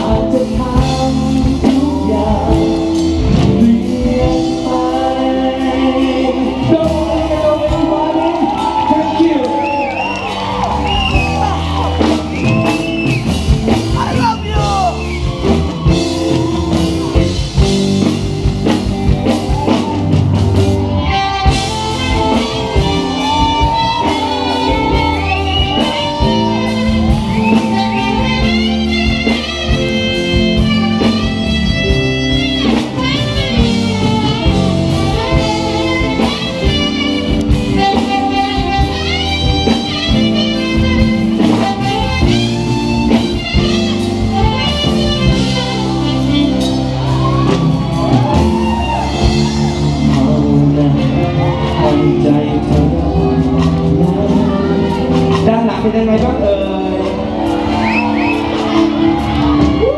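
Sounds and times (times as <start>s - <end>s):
saxophone solo: 0.0s - 55.4s, 56.5s - 59.9s
live band playing: 0.0s - 59.9s.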